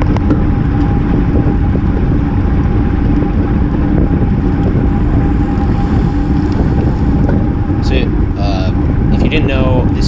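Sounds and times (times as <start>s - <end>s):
steady hum: 0.0s - 10.0s
wind rushing over microphone: 0.0s - 10.0s.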